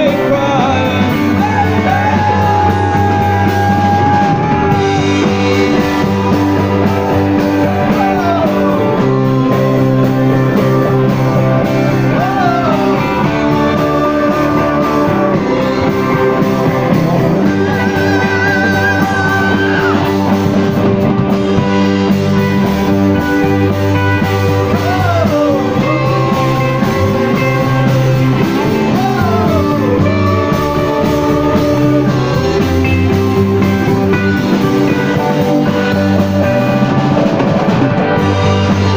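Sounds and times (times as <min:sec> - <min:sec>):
electric guitar bent notes: 0:00.0 - 0:38.9
live rock band playing: 0:00.0 - 0:38.9.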